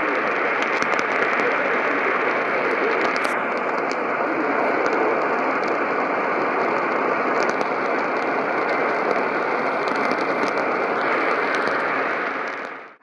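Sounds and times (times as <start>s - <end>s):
faint crackles: 0.0s - 13.0s
radio static hiss: 0.0s - 13.0s.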